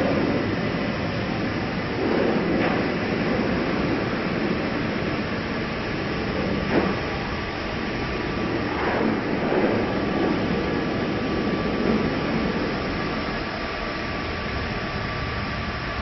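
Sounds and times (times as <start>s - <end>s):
dryer blowing air: 0.0s - 15.8s.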